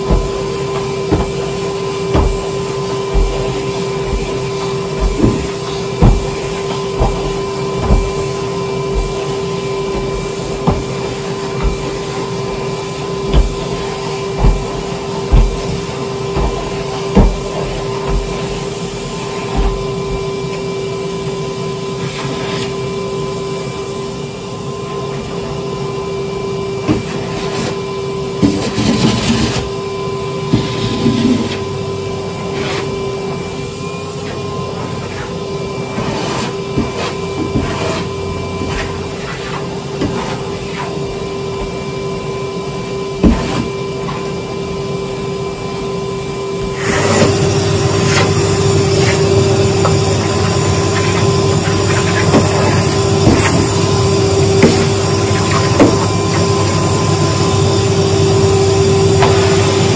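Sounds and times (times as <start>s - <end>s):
vacuum cleaner motor whine: 0.0s - 59.9s.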